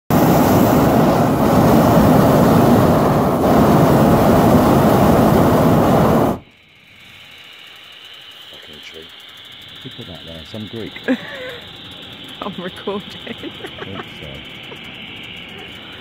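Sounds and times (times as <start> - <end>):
propane burner roaring: 0.1 - 16.0.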